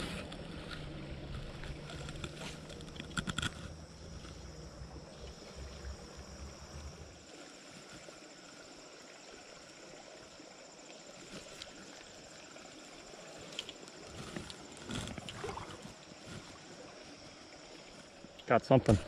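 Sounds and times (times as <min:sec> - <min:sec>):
creek water flowing: 0:00.0 - 0:19.0
insects chirring: 0:00.2 - 0:19.0.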